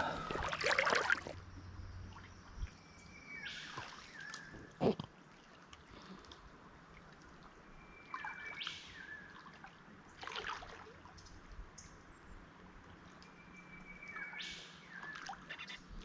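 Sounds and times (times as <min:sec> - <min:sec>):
faint trickling water: 0:00.0 - 0:14.1.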